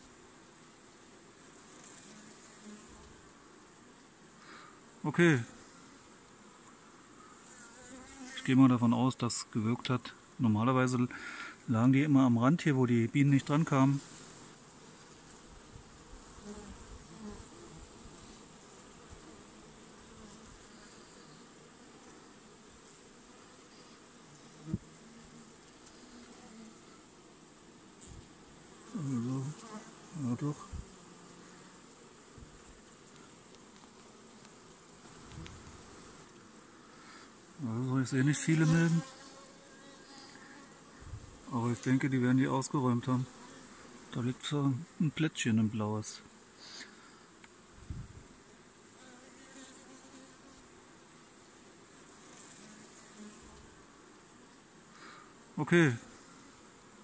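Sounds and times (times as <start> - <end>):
bees flying close past: 0.0 - 8.8, 13.1 - 45.2, 46.2 - 57.0
honeybees buzzing: 0.0 - 57.0.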